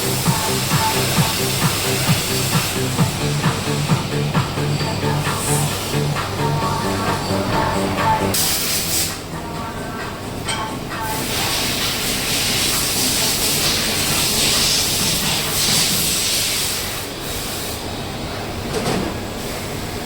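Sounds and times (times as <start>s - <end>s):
loud steady hissing: 0.0s - 9.5s, 11.0s - 18.0s.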